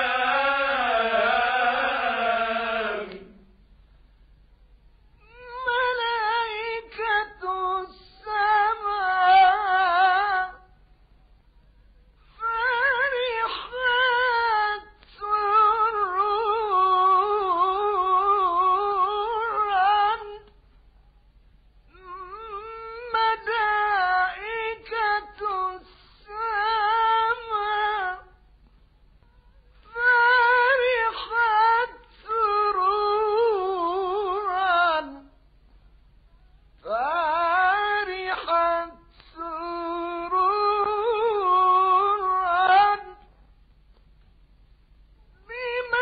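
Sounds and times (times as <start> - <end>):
high voice singing religious chant: 0.0 - 3.6, 5.2 - 10.8, 12.2 - 20.6, 21.9 - 28.6, 29.2 - 35.4, 36.3 - 43.4, 45.3 - 46.0.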